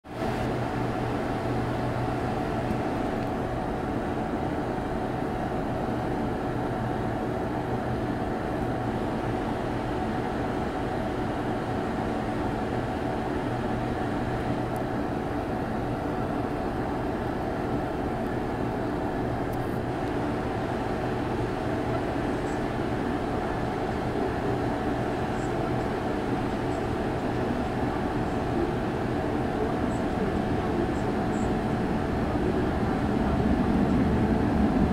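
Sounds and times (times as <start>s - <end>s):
metro station platform hum: 0.1s - 34.9s.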